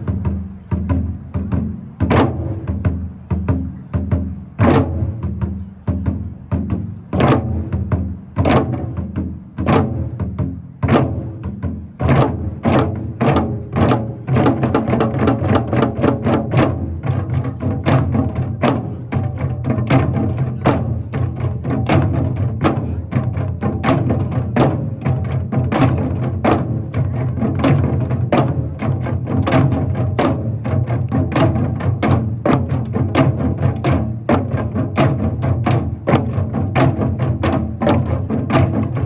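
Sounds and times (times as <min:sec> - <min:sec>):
hourglass drums played fast: 0:00.0 - 0:39.0.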